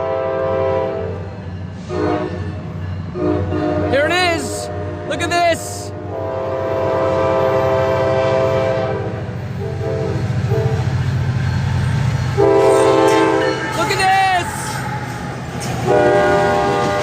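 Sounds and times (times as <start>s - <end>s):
locomotive horn blasts: 0.0s - 1.2s, 1.8s - 10.9s, 12.3s - 15.1s, 15.8s - 17.0s
low rumble of diesel train: 0.0s - 17.0s.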